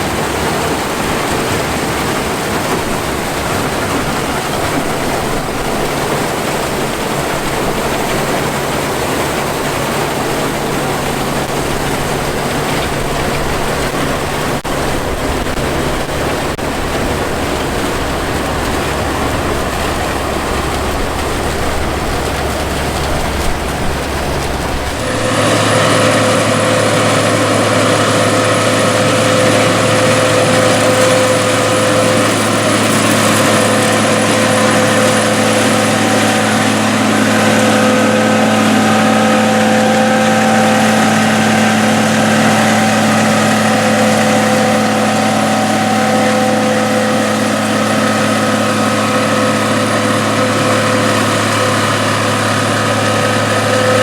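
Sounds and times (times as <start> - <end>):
combine harvester engine rumbling: 0.0 - 54.0
machine humming: 0.0 - 54.0.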